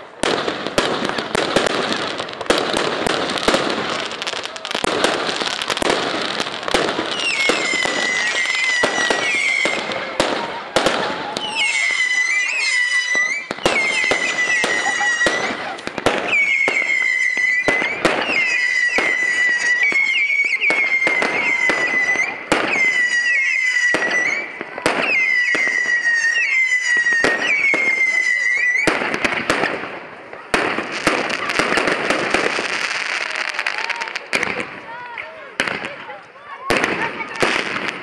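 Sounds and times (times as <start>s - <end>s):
firework bangs: 0.0s - 38.0s
firework crackling: 0.0s - 38.0s
whistling fireworks: 0.0s - 38.0s.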